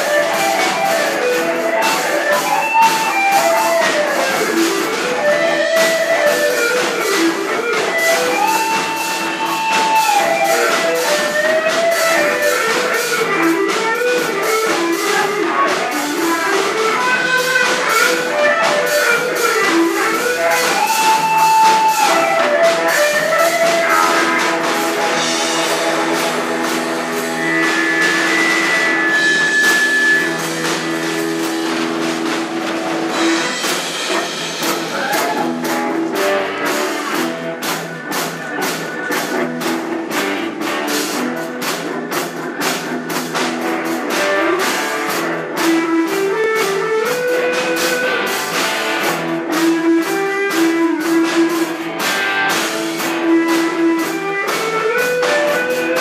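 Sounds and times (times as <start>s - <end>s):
bass guitar: 0.0s - 56.0s
drum kit with cymbals: 0.0s - 56.0s
electric guitar lead lines: 0.0s - 56.0s
keyboard: 0.0s - 56.0s.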